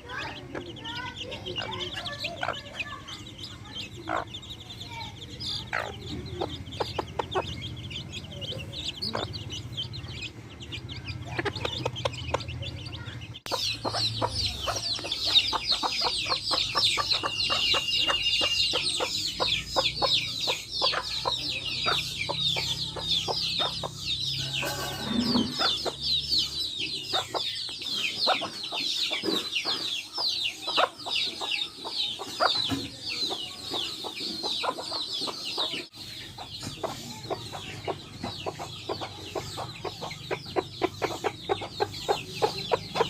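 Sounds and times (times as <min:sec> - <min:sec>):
chicks peeping: 0:00.0 - 0:43.0
hens clucking: 0:00.0 - 0:43.0.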